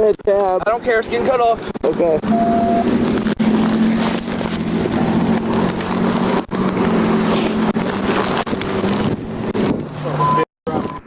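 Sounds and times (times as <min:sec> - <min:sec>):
passing road traffic: 0:00.0 - 0:11.0
engine hum: 0:00.3 - 0:11.0
wind buffeting microphone: 0:00.6 - 0:11.0.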